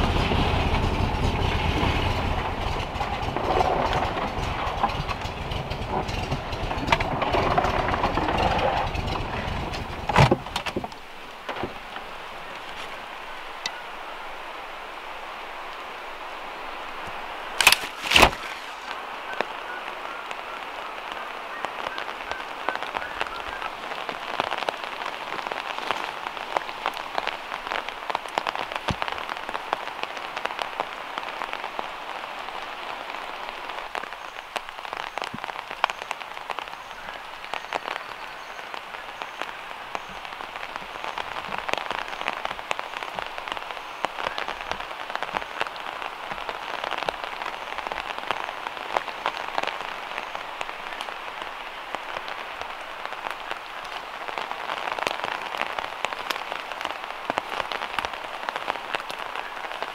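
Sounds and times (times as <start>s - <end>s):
rain dripping from trees: 0.0s - 59.9s.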